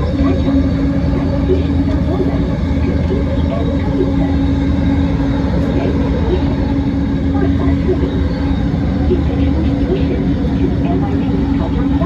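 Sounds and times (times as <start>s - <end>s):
light-rail train running: 0.0s - 12.0s.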